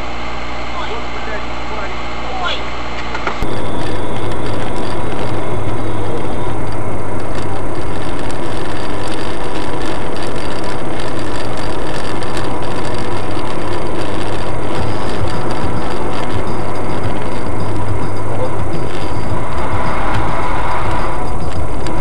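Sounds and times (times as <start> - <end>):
car engine: 0.0 - 22.0
road noise: 0.0 - 22.0.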